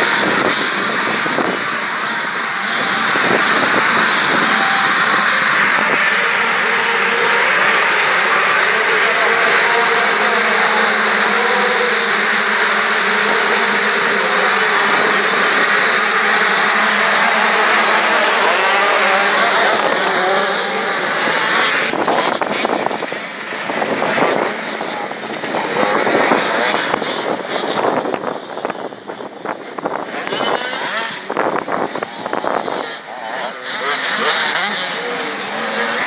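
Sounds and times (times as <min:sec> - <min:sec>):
bikes passing by: 0:00.0 - 0:36.0
motocross bikes revving: 0:00.0 - 0:36.0.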